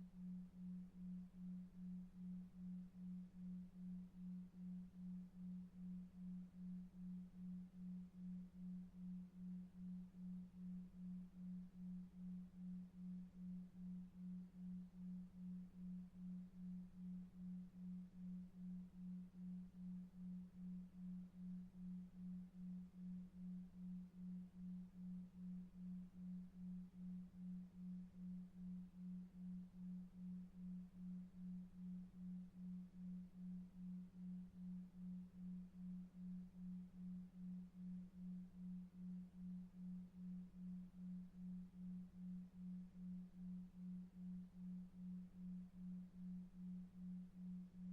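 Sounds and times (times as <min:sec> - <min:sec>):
low pulsing pure tone: 0:00.0 - 0:47.9.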